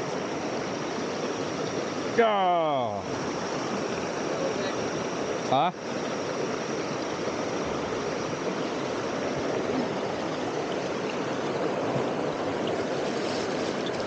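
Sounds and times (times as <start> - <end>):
fast-flowing stream: 0.0 - 14.0
waterfall rushing: 0.0 - 14.0.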